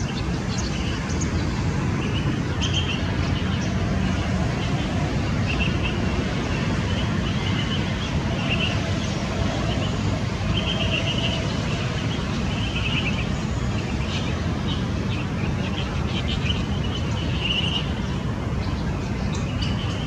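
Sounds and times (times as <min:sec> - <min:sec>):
sparrows chirping: 0:00.0 - 0:20.0.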